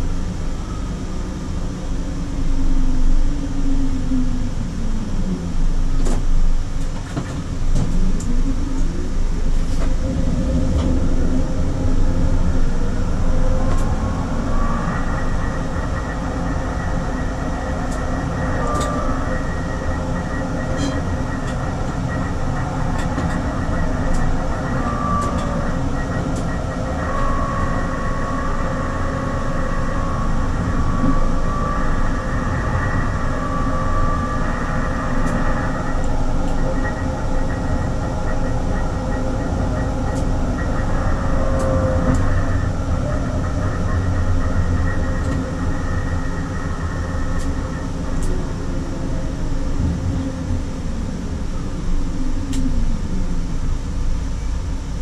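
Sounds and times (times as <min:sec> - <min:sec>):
tram rumbling on track: 0:00.0 - 0:55.0.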